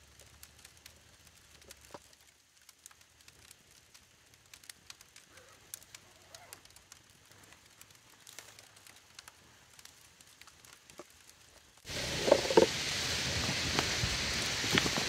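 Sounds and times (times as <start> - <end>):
campfire crackling and popping: 0.0 - 15.0
fire hissing: 0.0 - 15.0.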